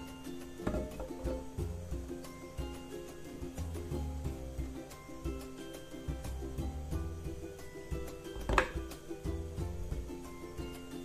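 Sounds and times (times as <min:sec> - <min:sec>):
background music sustained notes: 0:00.0 - 0:11.0.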